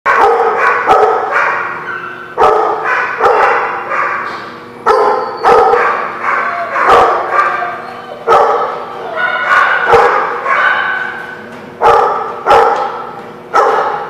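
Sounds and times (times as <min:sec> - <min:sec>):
dogs barking: 0:00.1 - 0:14.0.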